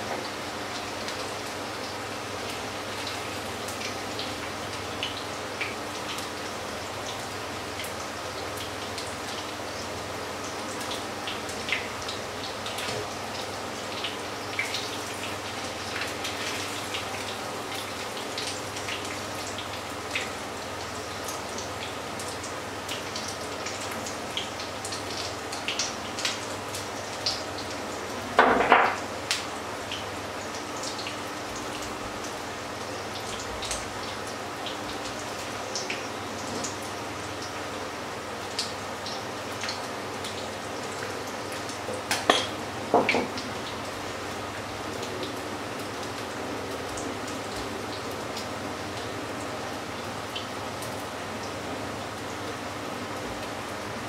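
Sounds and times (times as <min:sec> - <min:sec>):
oil sizzling with crackling pops: 0:00.0 - 0:52.6.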